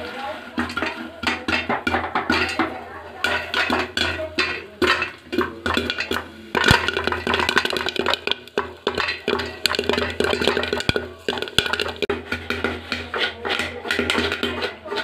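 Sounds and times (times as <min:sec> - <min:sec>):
corn kernels popping in a pot: 0:00.0 - 0:15.0.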